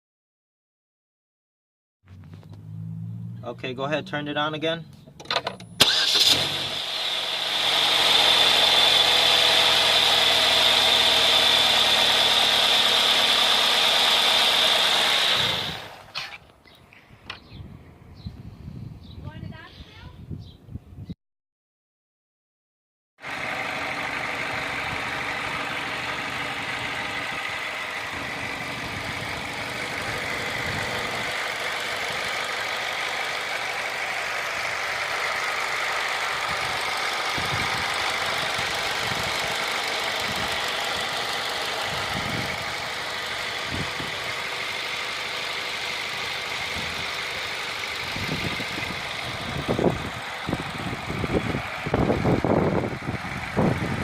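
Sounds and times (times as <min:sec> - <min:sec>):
car engine running: 0:02.1 - 0:04.2, 0:04.9 - 0:16.3, 0:23.2 - 0:54.0.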